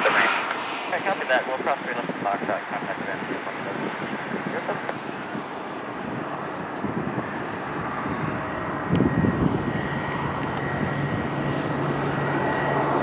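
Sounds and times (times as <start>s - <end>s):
airliner engines rumbling: 0.0s - 13.0s
high engine whine: 0.0s - 13.0s
low burst: 0.0s - 13.0s.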